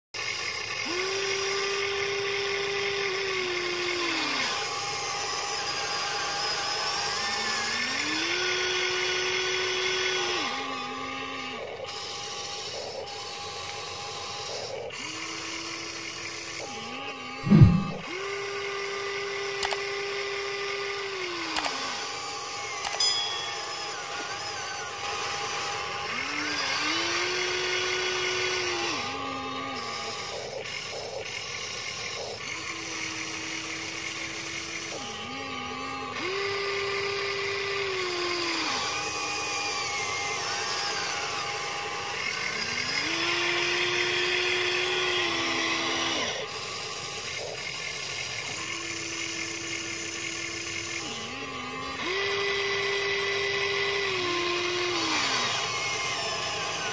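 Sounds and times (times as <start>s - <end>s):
electric motors whining: 0.2s - 56.9s.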